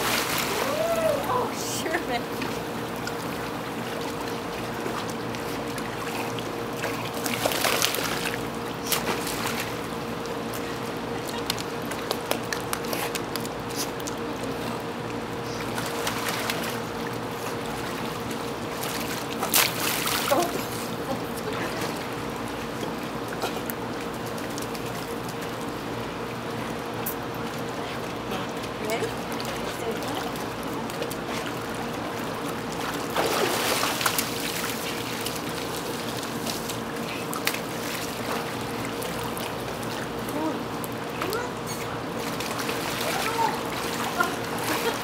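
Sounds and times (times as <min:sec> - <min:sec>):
faint steady hum: 0:00.0 - 0:45.0
pool water splashing: 0:00.0 - 0:45.0.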